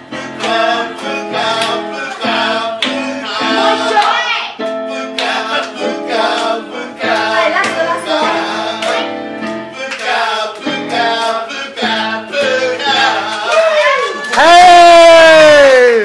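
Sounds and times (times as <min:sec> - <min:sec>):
instrumental backing: 0:00.0 - 0:15.0.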